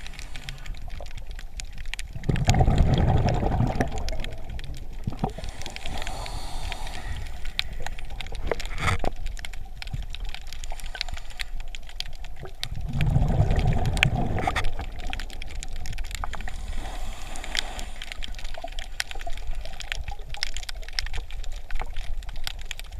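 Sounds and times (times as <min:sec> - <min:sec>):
sharp clicks and crackles: 0:00.0 - 0:22.9
underwater bubbling water: 0:00.0 - 0:22.9.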